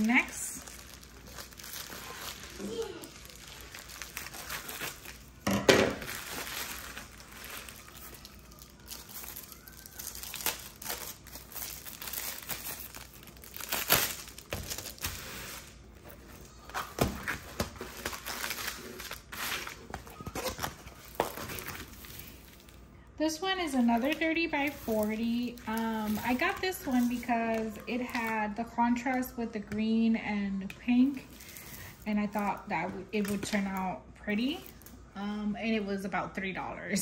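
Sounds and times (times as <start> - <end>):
plastic crinkling and rustling: 0.0 - 29.4, 30.8 - 35.1.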